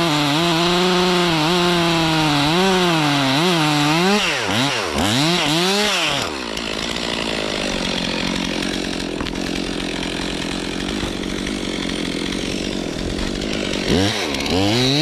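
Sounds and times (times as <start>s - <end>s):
chainsaw revving and running: 0.0s - 15.0s.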